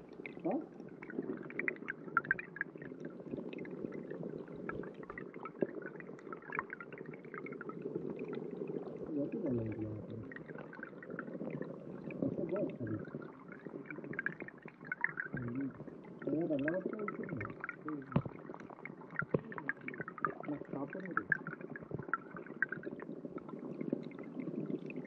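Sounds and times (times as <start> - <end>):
small clicks and ticks: 0.0 - 9.0, 13.0 - 25.0
underwater stream rumble: 0.0 - 25.0.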